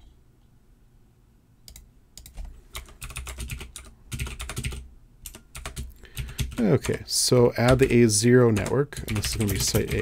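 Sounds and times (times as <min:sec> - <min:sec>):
computer keyboard typing: 0:01.7 - 0:10.0.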